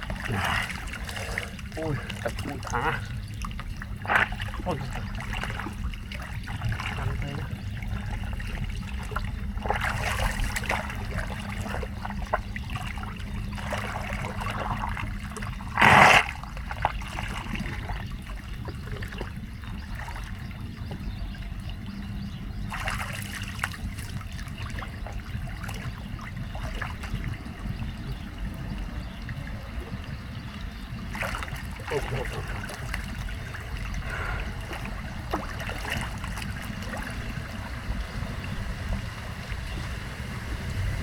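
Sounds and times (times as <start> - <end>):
water trickling into storm drain: 0.0 - 41.0.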